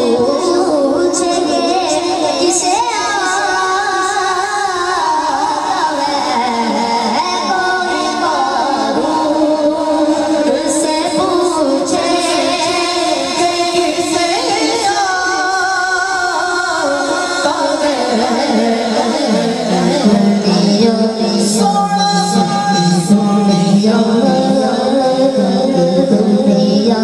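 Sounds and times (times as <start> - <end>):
boy singing through a microphone: 0.0 - 27.0.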